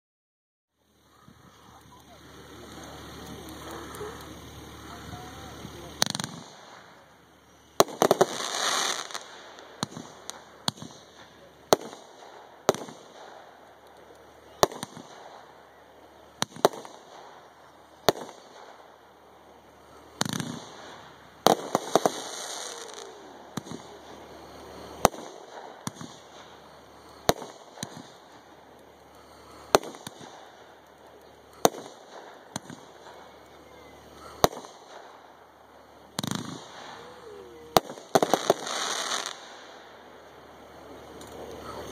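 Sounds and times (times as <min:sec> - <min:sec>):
firework crackling: 0:00.8 - 0:41.9
firework bangs: 0:01.3 - 0:41.9.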